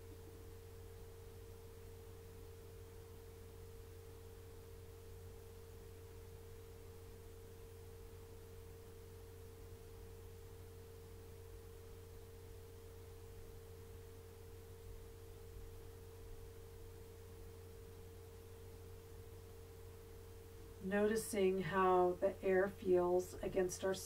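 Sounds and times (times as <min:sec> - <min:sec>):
faint steady tone: 0:00.0 - 0:24.0
low hum: 0:00.0 - 0:24.0.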